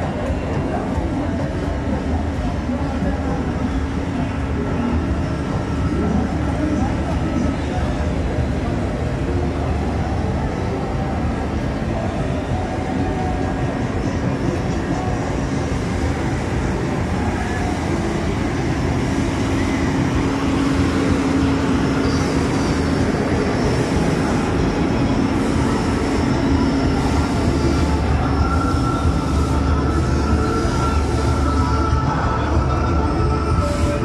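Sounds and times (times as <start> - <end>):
rumble of fairground rides: 0.0 - 34.0
steady low hum: 0.0 - 34.0.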